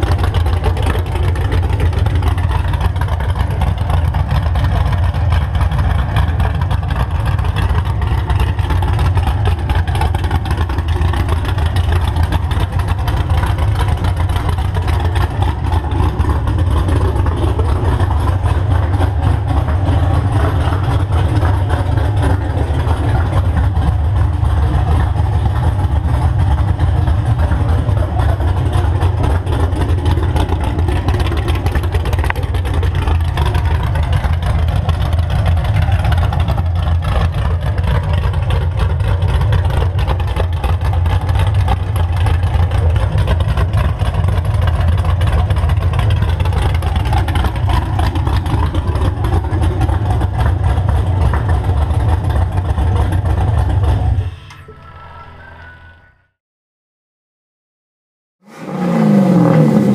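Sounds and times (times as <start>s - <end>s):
car engine idling: 0.0s - 55.4s.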